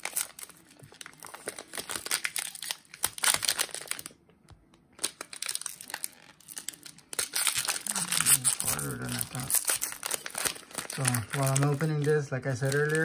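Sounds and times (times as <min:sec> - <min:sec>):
foil wrapper crinkling and tearing: 0:00.0 - 0:04.2, 0:04.9 - 0:13.0.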